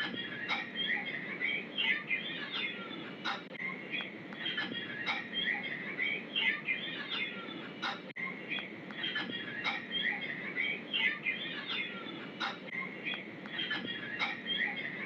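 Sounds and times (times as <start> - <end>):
many birds chirping: 0.0 - 15.0.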